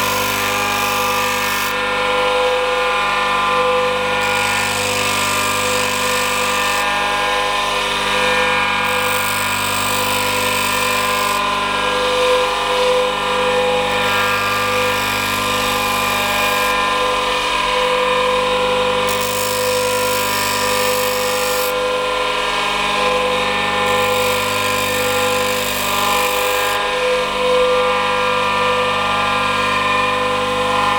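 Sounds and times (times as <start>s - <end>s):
grinder motor whine: 0.0s - 30.9s.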